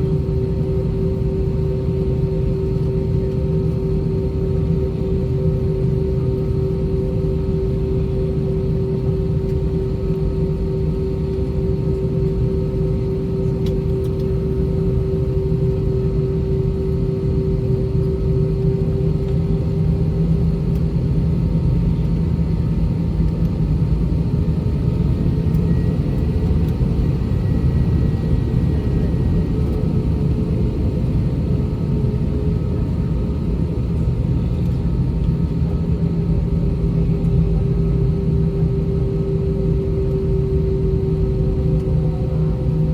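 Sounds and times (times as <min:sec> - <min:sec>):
aircraft cabin engine rumble: 0:00.0 - 0:42.9
multi-tone engine hum: 0:04.8 - 0:42.9.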